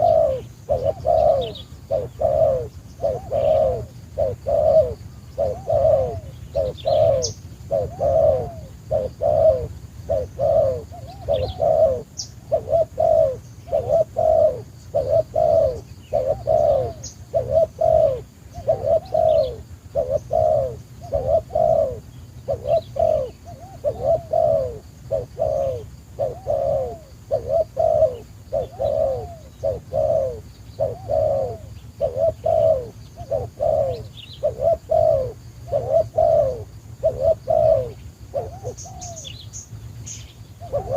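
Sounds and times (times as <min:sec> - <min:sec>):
dove cooing: 0:00.0 - 0:40.9
faint high bird chirps: 0:00.0 - 0:40.9.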